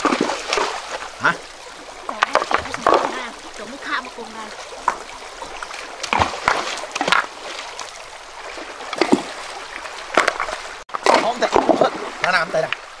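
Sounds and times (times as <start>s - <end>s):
stones knocking and splashing: 0.0s - 1.2s, 2.0s - 12.9s
stream water running over rocks: 0.0s - 13.0s.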